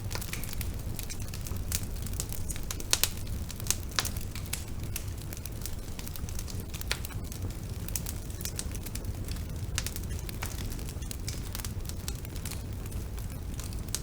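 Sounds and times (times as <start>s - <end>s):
bonfire crackling and popping: 0.0s - 14.0s
low rumble of flames: 0.0s - 14.0s.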